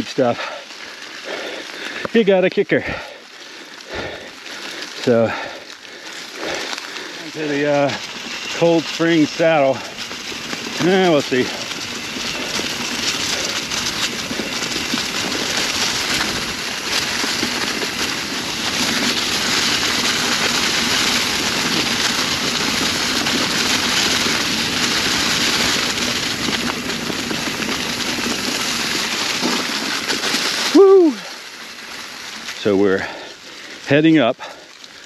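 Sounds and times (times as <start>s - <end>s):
bike tyres crackling through leaves: 0.0s - 35.0s.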